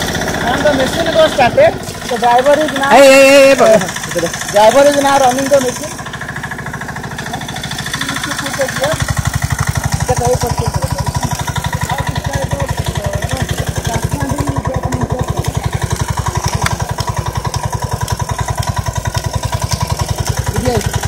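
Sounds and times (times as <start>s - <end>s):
small engine chugging: 0.0s - 21.0s.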